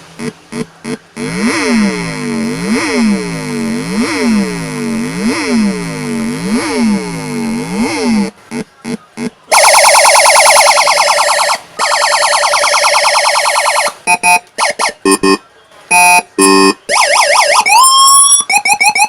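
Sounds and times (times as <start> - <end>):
electronic police siren: 0.2 - 8.3, 9.5 - 19.0.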